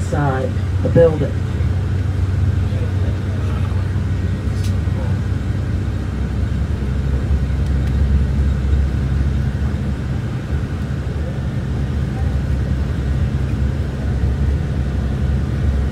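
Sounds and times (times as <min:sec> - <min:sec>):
car driving rumble from inside: 0:00.0 - 0:15.9.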